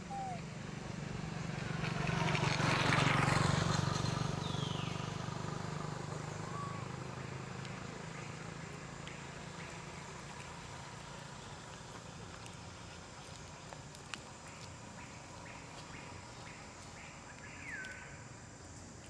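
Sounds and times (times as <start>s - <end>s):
vehicle passing on road: 0.0s - 17.2s.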